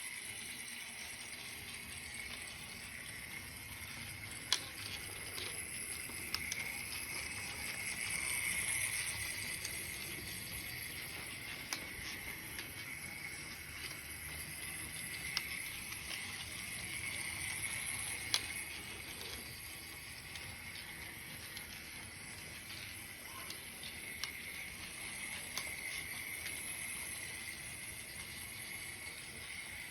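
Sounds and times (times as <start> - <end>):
small electric motors whirring: 0.0 - 29.9.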